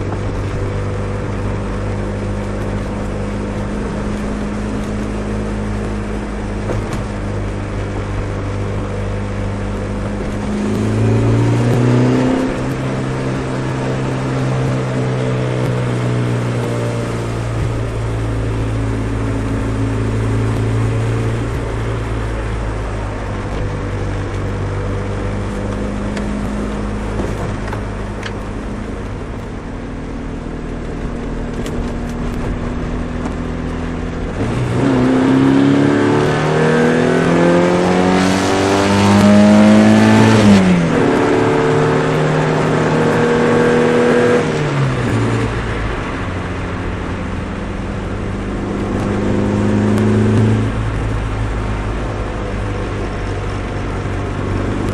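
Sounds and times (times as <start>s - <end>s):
car engine droning: 0.0s - 54.9s.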